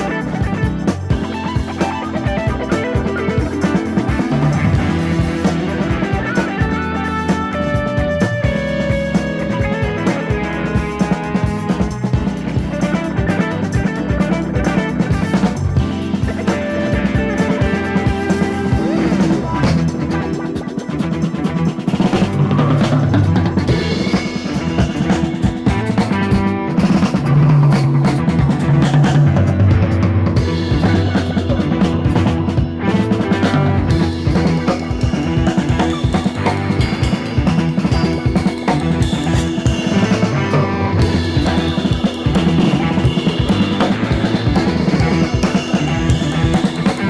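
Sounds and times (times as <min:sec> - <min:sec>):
background music with drums and bass: 0:00.0 - 0:47.0.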